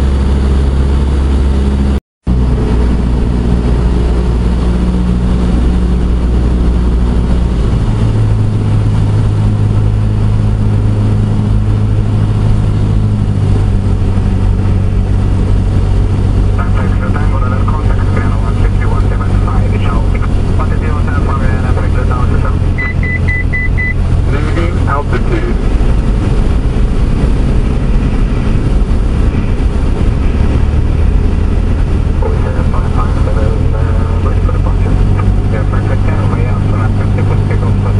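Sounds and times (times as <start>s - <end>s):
airflow noise: 0.0s - 37.9s
airplane engine and propeller: 0.0s - 37.9s.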